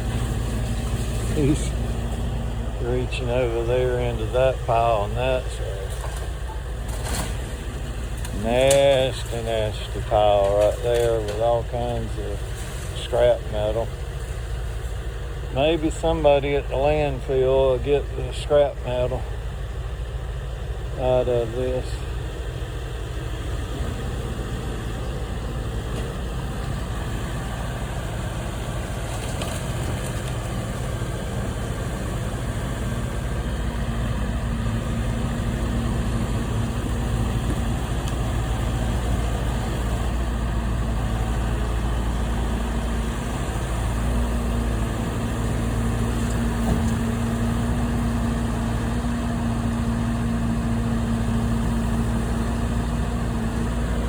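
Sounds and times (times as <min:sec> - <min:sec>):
diesel engine running: 0:00.0 - 0:54.0
low steady hum: 0:00.0 - 0:54.0.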